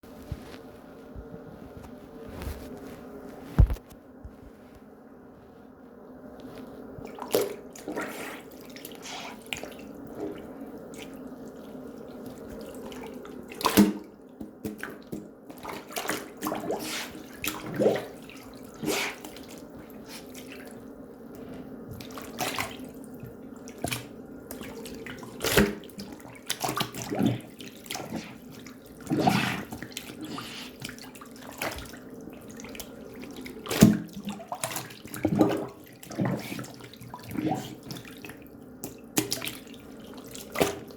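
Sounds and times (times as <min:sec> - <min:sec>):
splashes and handling noises: 0:06.4 - 0:40.9
water rushing at a sink: 0:06.9 - 0:40.9.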